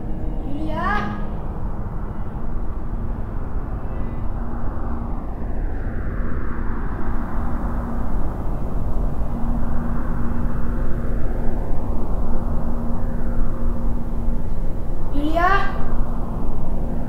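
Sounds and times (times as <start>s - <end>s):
loud rumbling drone: 0.0s - 17.0s
steady low hum: 0.0s - 17.0s.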